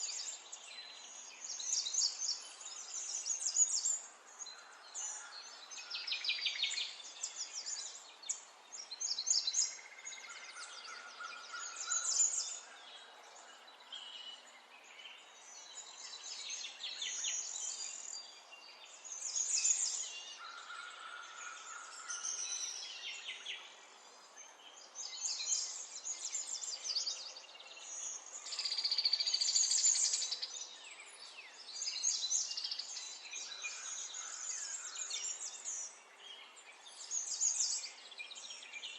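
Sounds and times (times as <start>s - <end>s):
songbird trills and chirps: 0.0s - 38.9s.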